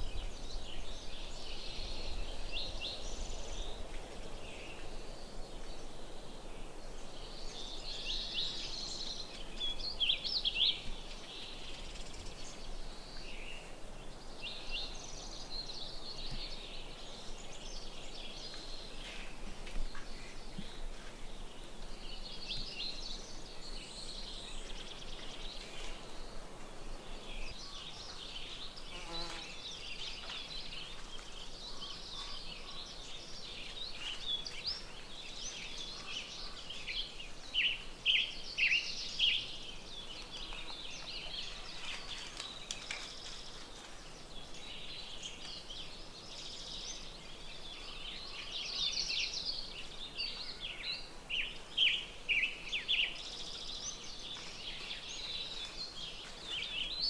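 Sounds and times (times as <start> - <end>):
birds singing and calling: 6.6 - 57.0.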